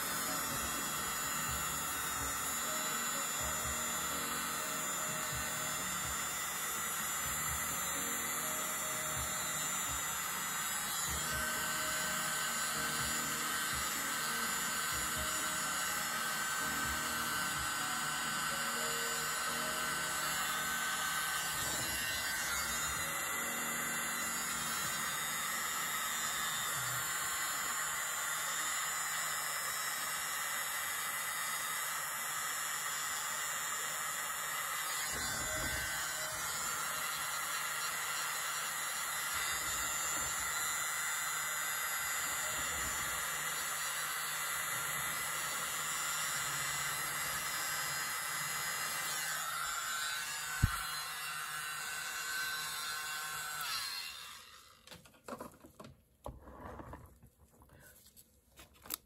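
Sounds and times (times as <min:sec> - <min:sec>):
small leaf blower running: 0:00.0 - 0:55.0.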